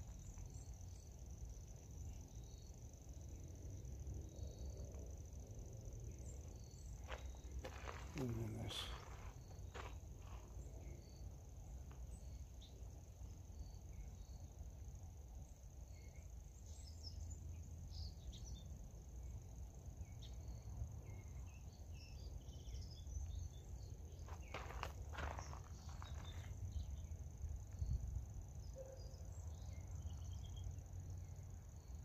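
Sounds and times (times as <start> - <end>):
insect chorus: 0.0 - 32.0.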